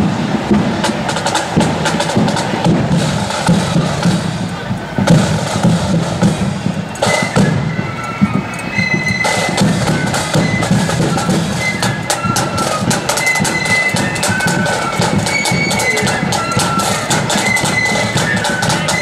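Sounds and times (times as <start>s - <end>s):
flutes playing a tune: 0.0s - 19.0s
snare and bass drums beat: 0.0s - 19.0s.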